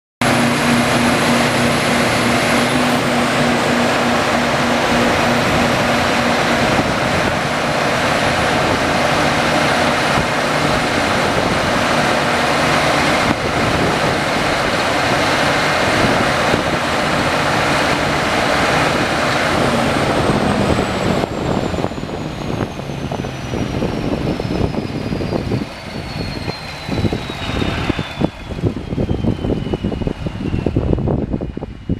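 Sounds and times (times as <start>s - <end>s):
diesel generator running: 0.2s - 31.9s
high whine falling in pitch: 0.2s - 31.9s.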